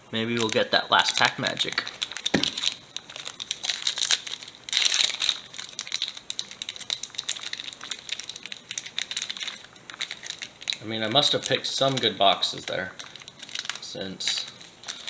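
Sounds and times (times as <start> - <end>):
foil wrapper crinkling: 0.2 - 15.0.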